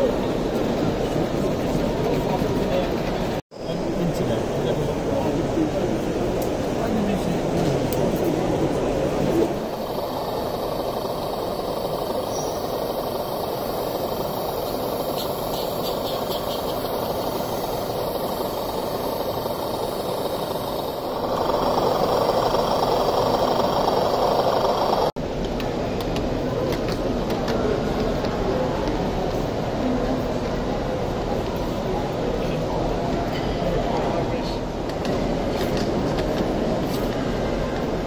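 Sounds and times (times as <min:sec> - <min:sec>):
crowd hubbub in a hall: 0:00.0 - 0:38.0.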